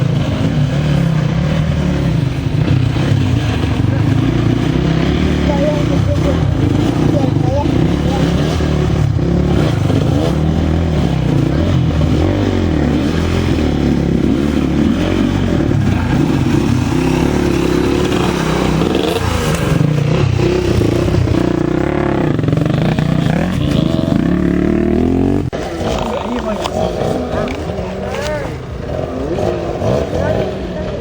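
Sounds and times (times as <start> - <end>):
racing motorcycles revving: 0.0 - 31.0.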